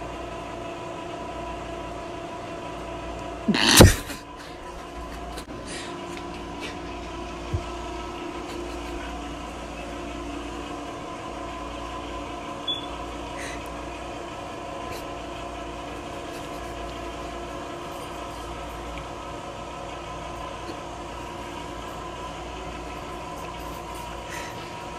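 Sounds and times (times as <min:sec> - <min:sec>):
mechanical hum: 0:00.0 - 0:24.9.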